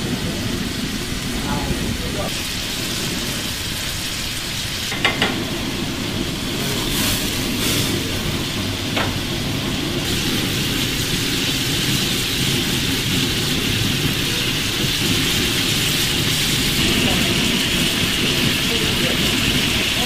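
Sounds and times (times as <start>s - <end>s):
gas flame hissing: 0.0s - 20.0s.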